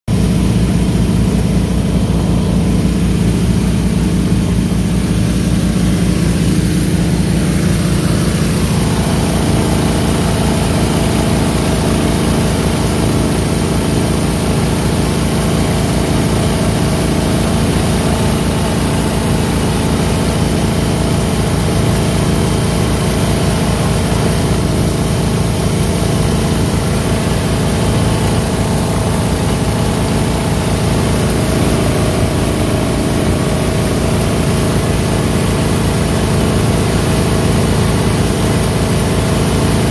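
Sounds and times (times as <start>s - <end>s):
mud motors running: 0.1s - 39.9s.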